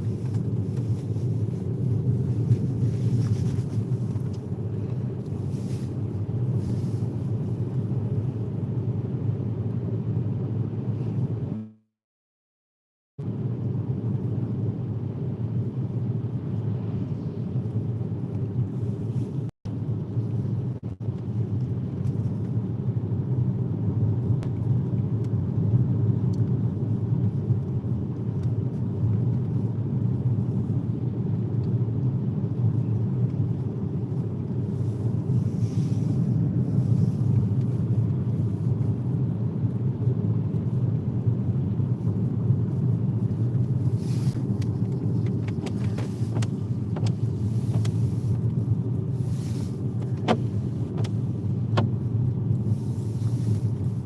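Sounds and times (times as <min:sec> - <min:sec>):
car interior road noise: 0:00.0 - 0:11.8, 0:13.2 - 0:54.0.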